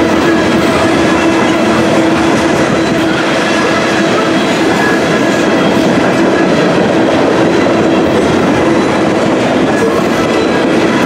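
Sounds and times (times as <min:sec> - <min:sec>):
train wheels rumbling and clattering: 0:00.0 - 0:11.0.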